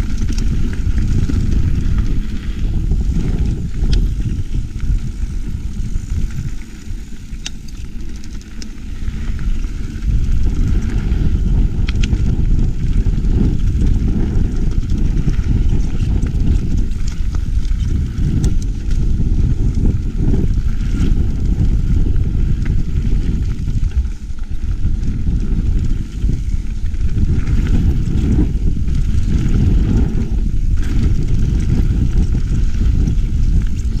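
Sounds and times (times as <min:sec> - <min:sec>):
bike clicking and rattling: 0:00.0 - 0:34.0
tyres rumbling on gravel: 0:00.0 - 0:34.0
wind on microphone: 0:00.0 - 0:34.0.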